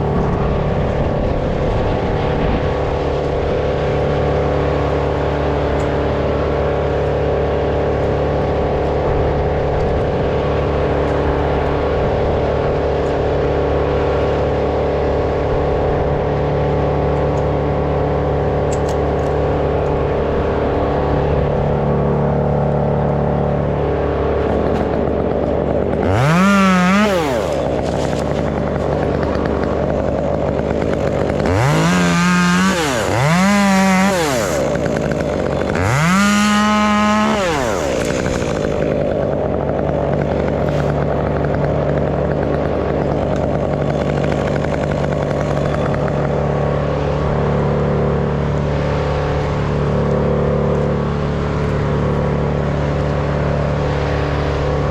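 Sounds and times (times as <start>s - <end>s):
chainsaw idling and revving: 0.0s - 0.4s, 3.7s - 54.9s.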